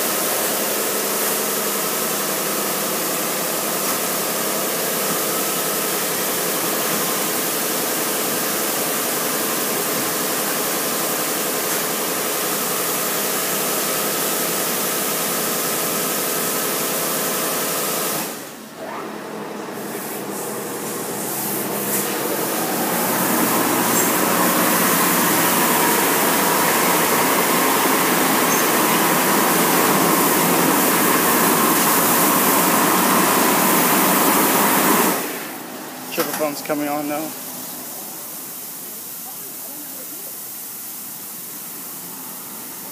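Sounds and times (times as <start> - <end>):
car wash spraying water: 0.0 - 42.9
pump and motors whining: 0.0 - 42.9.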